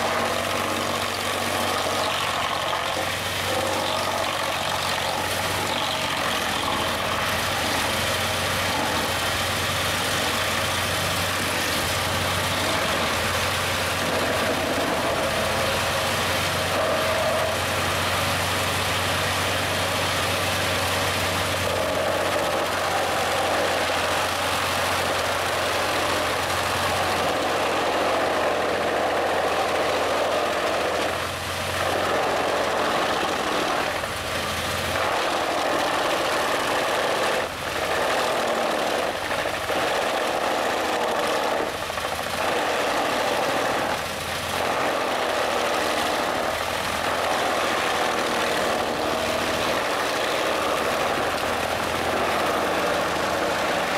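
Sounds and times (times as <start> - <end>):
wood chipper chipping log: 0.0 - 53.9.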